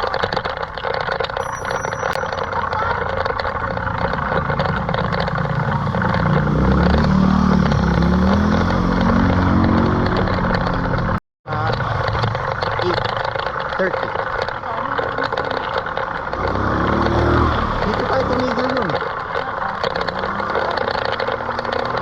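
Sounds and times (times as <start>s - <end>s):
rumble of rough road: 0.0s - 22.0s
vehicle engine: 0.0s - 22.0s.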